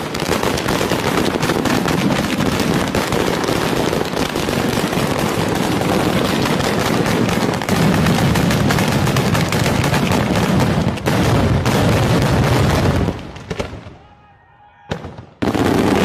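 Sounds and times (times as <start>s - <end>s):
firecrackers exploding: 0.0s - 14.0s, 14.9s - 16.0s.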